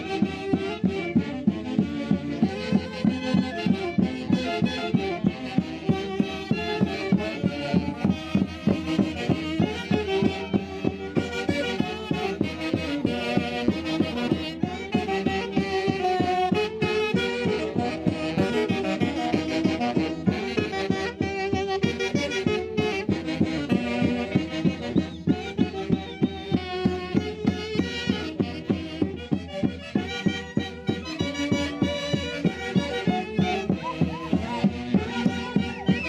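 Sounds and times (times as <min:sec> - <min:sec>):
saxophones and violins band music: 0:00.0 - 0:36.0.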